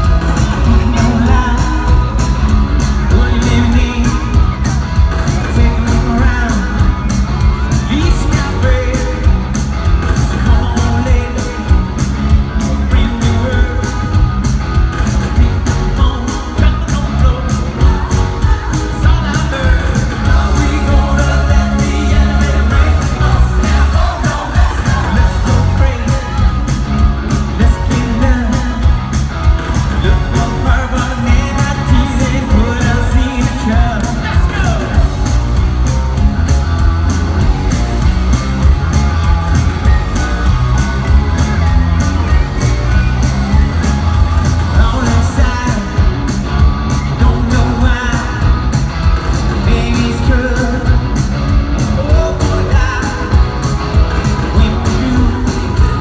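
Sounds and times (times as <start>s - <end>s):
lead singer singing: 0.0s - 14.2s, 15.0s - 35.6s, 41.3s - 48.8s, 49.5s - 56.0s
drums steady beat: 0.0s - 56.0s
live rock band playing: 0.0s - 56.0s.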